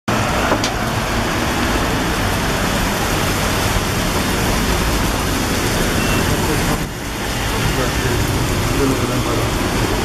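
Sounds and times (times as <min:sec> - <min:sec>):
heavy rain hissing: 0:00.2 - 0:10.0.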